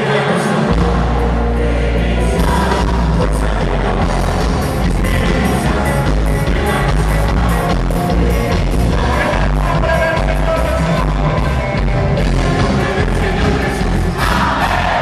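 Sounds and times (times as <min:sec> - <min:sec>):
singing: 0:00.0 - 0:15.0
heavy bass: 0:00.6 - 0:15.0.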